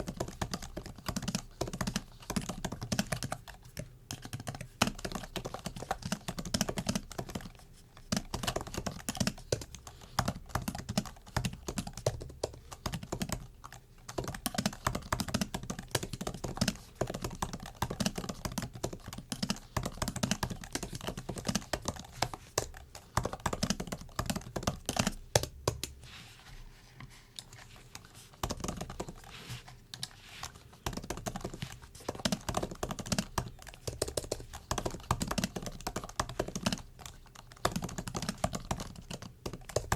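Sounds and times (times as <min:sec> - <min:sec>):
laptop keyboard typing: 0:00.0 - 0:26.0, 0:27.4 - 0:39.9.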